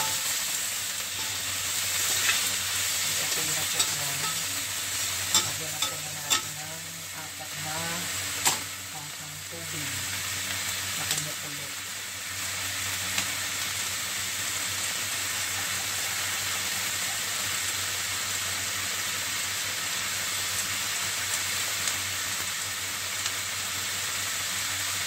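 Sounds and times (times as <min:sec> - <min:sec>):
meat sizzling in a wok: 0:00.0 - 0:25.0.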